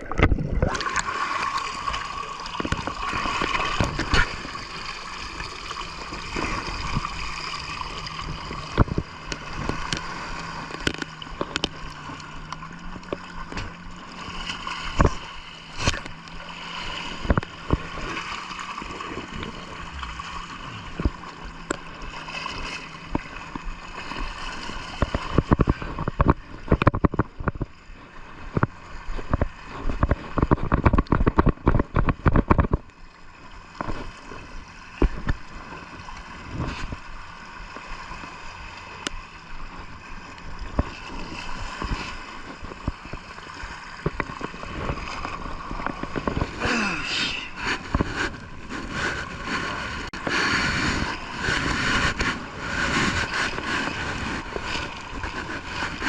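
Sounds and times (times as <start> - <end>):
steady motor hum: 0.0 - 56.0
underwater bubbling water: 0.0 - 56.0.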